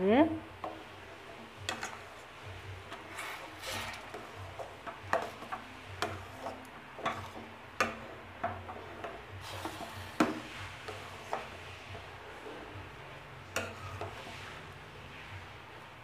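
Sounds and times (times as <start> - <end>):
ladle stirring thick mash: 0.5 - 15.6.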